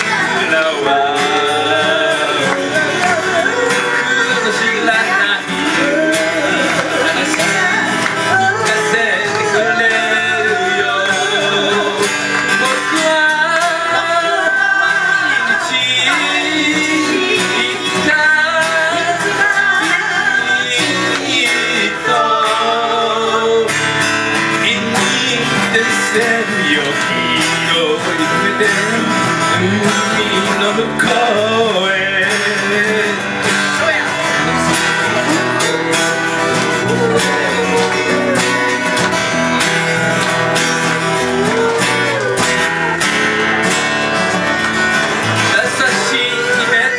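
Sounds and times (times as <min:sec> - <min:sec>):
man singing lead vocal: 0:00.0 - 0:44.4, 0:45.0 - 0:46.9
electric guitar: 0:00.0 - 0:46.9
strummed acoustic guitars: 0:00.0 - 0:46.9.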